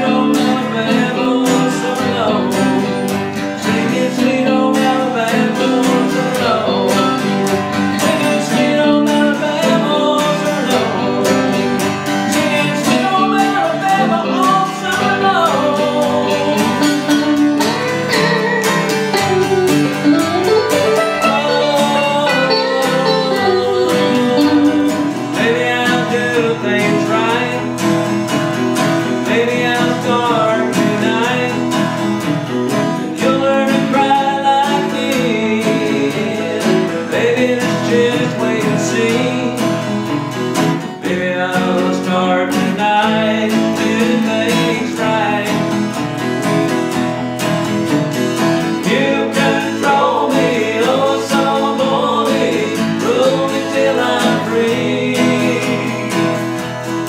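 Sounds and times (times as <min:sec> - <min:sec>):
electric guitar lead line: 0:00.0 - 0:57.0
strummed acoustic guitar: 0:00.0 - 0:57.0.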